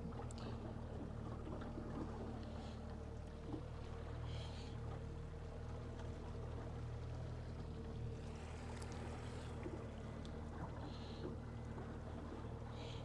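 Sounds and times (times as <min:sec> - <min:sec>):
outboard motor humming: 0:00.0 - 0:13.0
water washing and churning: 0:00.0 - 0:13.0.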